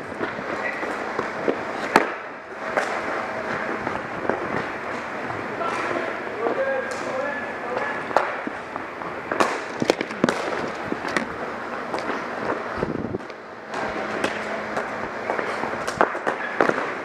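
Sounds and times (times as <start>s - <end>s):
hockey sticks and ball clacking: 0.1s - 12.6s, 13.2s - 17.0s.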